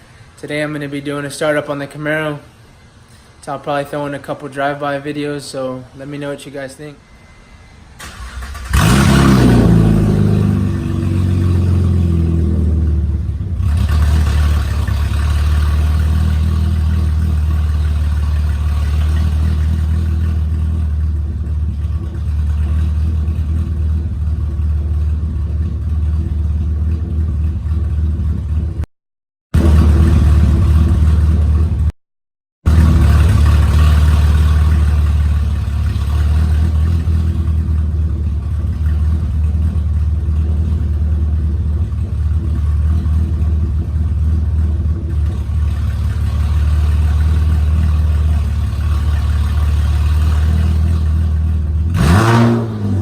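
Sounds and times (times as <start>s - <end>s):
car engine starting and idling: 7.0s - 28.9s, 29.6s - 31.9s, 32.7s - 53.0s.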